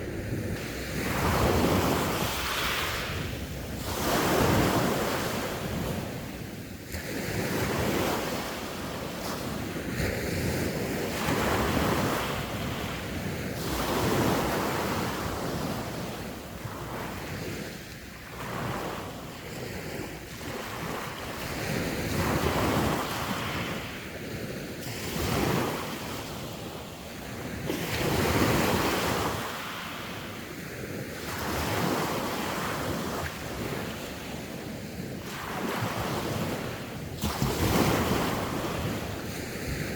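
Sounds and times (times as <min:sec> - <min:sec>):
sea waves breaking on shore: 0:00.0 - 0:39.9
wind buffeting the microphone: 0:00.0 - 0:39.9.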